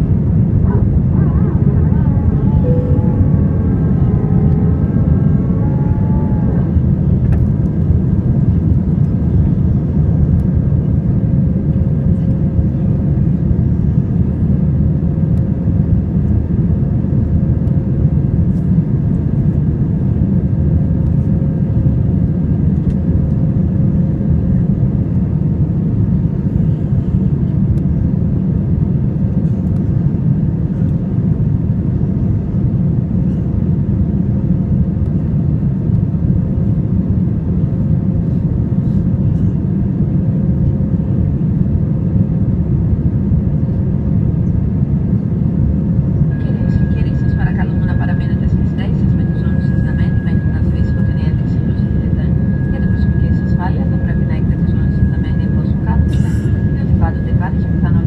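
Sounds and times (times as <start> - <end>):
faint hum: 0.0 - 58.0
jet engines roaring in cabin: 0.0 - 58.0.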